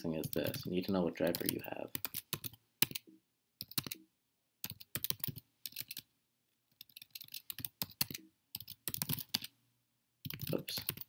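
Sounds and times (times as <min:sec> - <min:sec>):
keyboard typing: 0:00.2 - 0:06.1, 0:06.7 - 0:09.5, 0:10.2 - 0:11.0.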